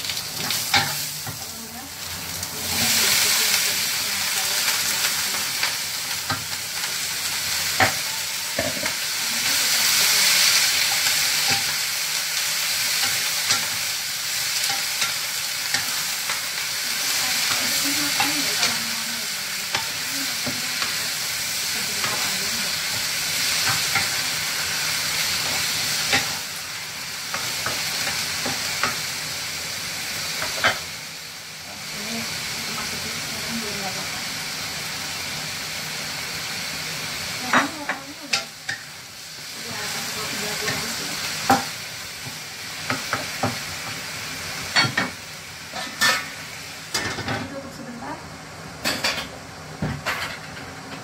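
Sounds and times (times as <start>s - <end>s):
cabbage sizzling in a wok: 0.0s - 51.0s.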